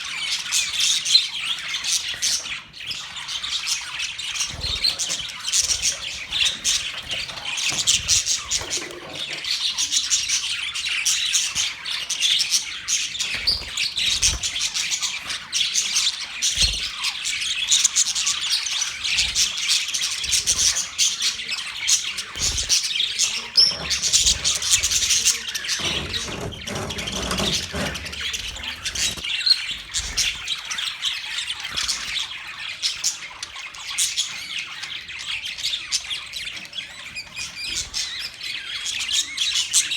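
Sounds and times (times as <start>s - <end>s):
budgerigars chirping: 0.1s - 39.9s.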